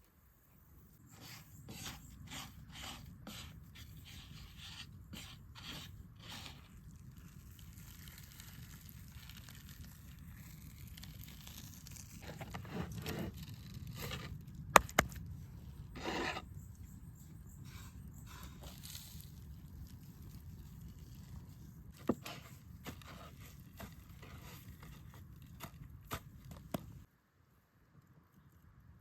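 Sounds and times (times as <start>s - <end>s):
rubbing and scraping handling noise: 0.8s - 27.1s.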